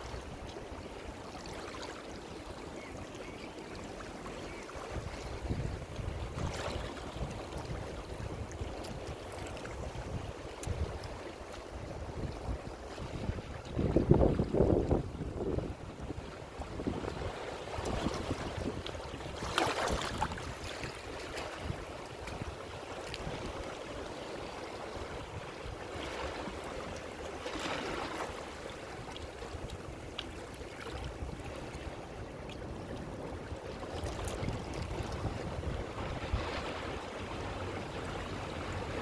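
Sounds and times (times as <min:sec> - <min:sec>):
ocean waves on shore: 0:00.0 - 0:39.0.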